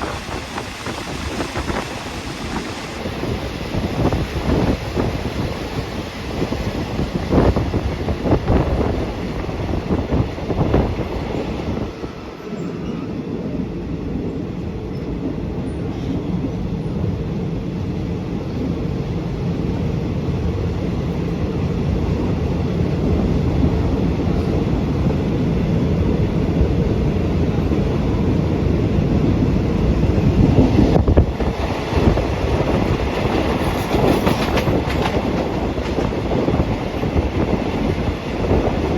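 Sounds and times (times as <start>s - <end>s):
passenger train on rails: 0.0s - 38.9s.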